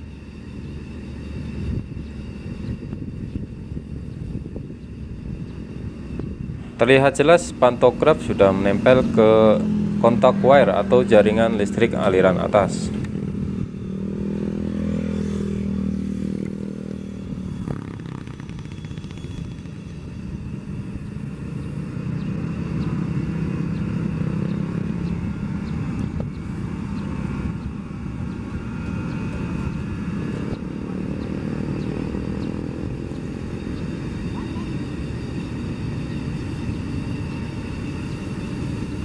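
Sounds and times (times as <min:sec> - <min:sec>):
train wheels rumbling: 0:00.0 - 0:39.0.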